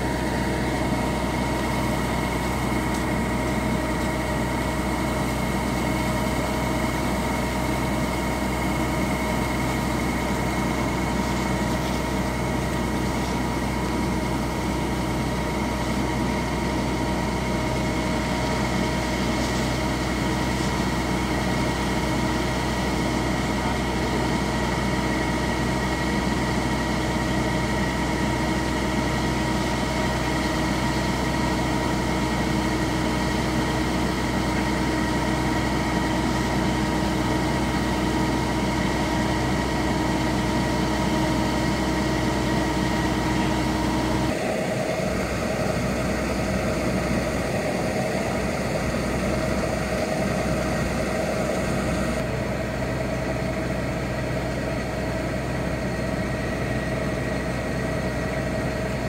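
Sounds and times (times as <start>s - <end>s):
auger feeding grain into sacks: 0.0s - 59.0s
combine harvester diesel engine: 0.0s - 59.0s
tractor diesel engine idling: 0.0s - 59.0s.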